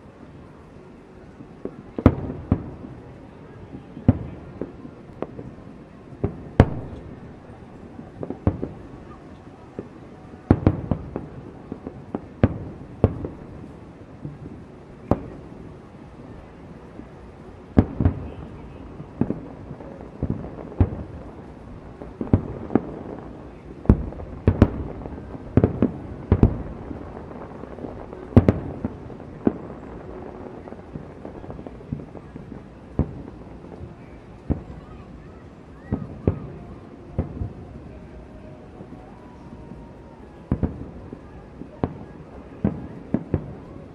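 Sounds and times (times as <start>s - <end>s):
fireworks booming: 1.3s - 43.9s.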